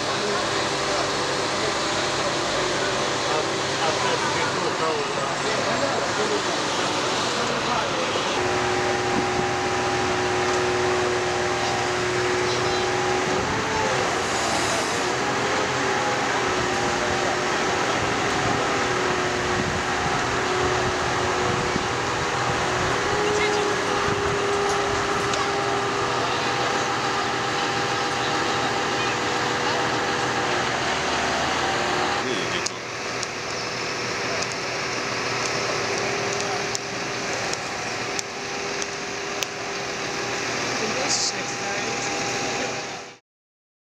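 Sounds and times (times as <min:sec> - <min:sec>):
crane engine hum with whine: 0:00.0 - 0:43.2.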